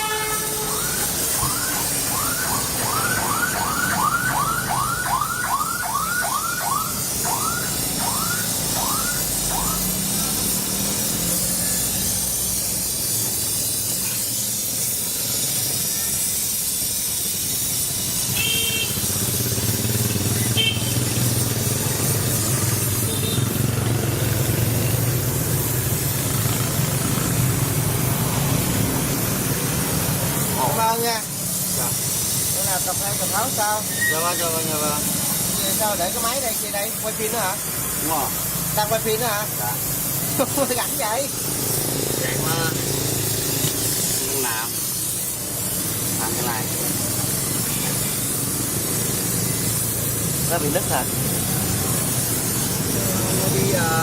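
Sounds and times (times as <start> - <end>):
gas torch flame hissing: 0.0 - 54.0.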